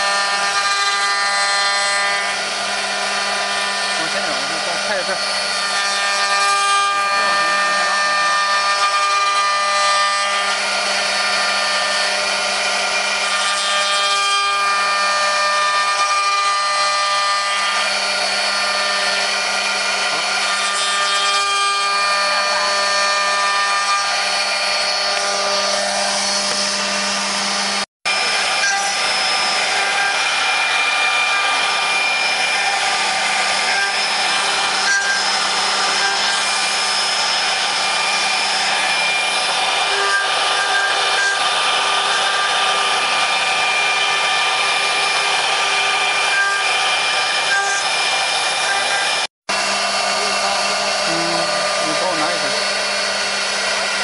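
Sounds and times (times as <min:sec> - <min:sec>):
spindle motors whining: 0:00.0 - 0:13.4, 0:17.6 - 0:54.0
router bits cutting wood: 0:00.0 - 0:54.0.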